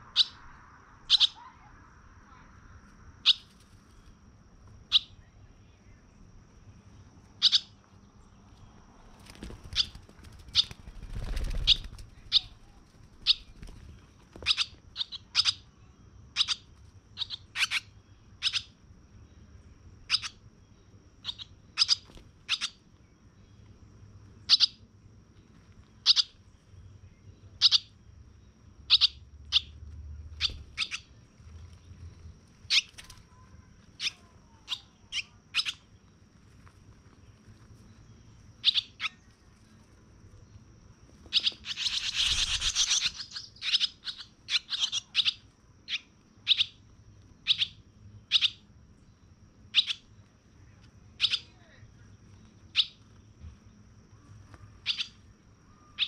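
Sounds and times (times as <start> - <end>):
bird chirping: 0.0 - 2.5, 3.2 - 36.2, 37.0 - 56.0.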